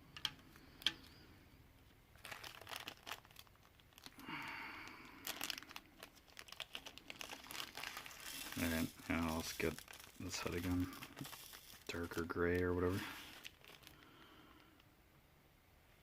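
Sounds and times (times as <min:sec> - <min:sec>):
plastic crinkling and clicking: 0:00.1 - 0:01.2, 0:01.8 - 0:04.2, 0:04.8 - 0:14.9.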